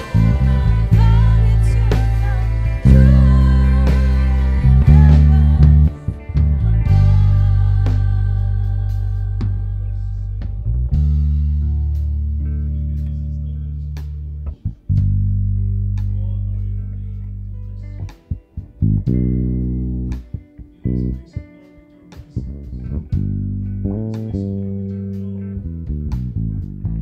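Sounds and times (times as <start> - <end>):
electric bass plucked notes: 0.0 - 21.6, 22.2 - 27.0.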